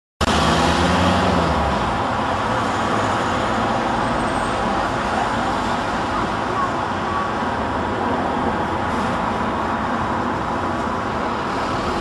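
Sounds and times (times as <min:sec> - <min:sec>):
outdoor traffic noise: 0:00.2 - 0:12.0.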